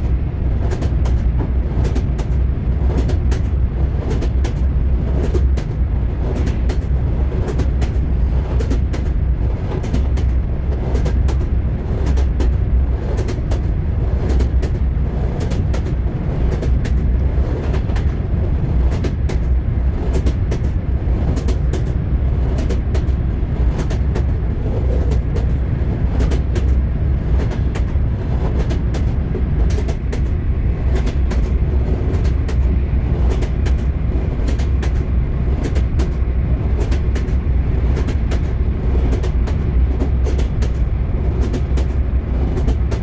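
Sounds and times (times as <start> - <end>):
low rumble of moving train: 0.0 - 43.0
train wheels clacking on rails: 0.0 - 43.0.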